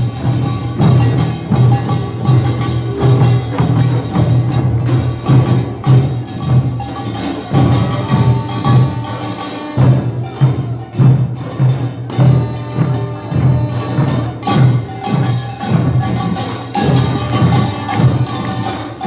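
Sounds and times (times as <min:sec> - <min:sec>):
drums beating: 0:00.0 - 0:19.0
gongs ringing and clattering: 0:00.0 - 0:19.0.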